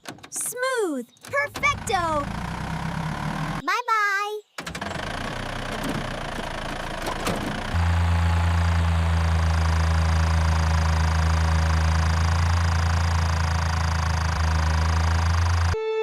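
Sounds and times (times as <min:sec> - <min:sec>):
tractor engine running: 0:01.2 - 0:03.6, 0:04.6 - 0:15.8.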